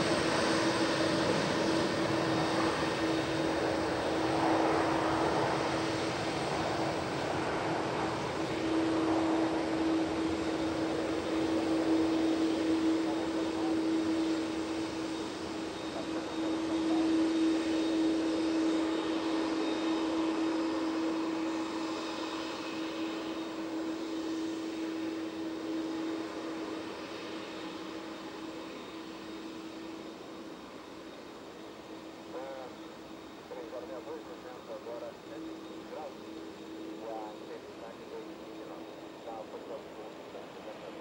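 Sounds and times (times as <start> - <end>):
jet engines humming: 0.0 - 41.0.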